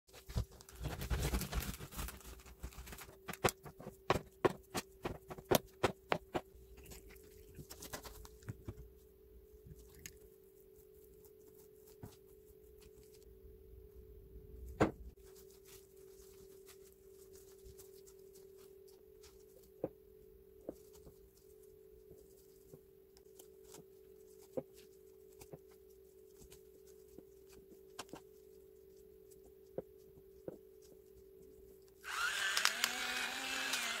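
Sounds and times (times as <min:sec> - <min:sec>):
steady low hum: 0:01.8 - 0:32.0.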